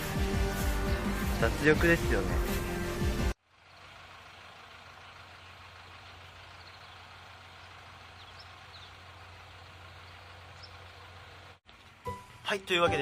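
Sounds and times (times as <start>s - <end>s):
distant road traffic: 1.0s - 13.0s.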